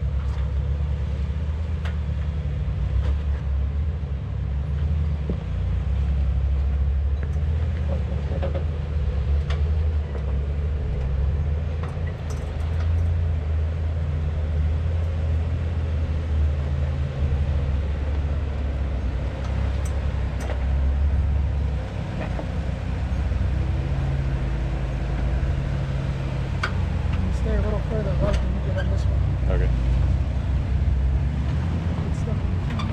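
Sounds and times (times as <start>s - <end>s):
engine running low: 0.0s - 32.9s.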